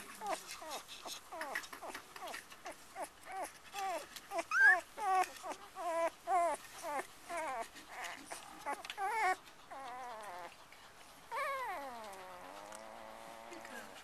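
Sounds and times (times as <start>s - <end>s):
puppies whimpering: 0.0s - 10.7s, 11.3s - 14.0s.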